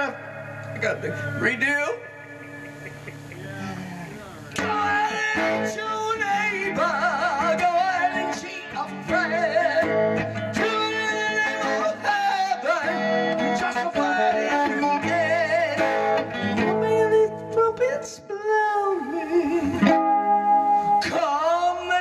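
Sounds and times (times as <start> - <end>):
electric guitar: 0.0 - 22.0
person singing: 0.6 - 22.0.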